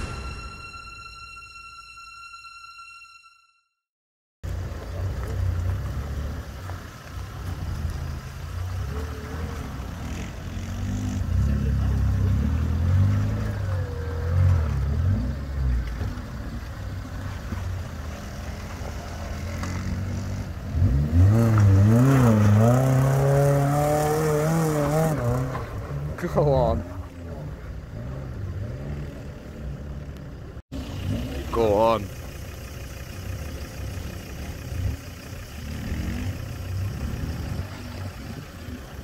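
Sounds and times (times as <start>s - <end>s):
off-road engine revving: 4.4s - 39.0s.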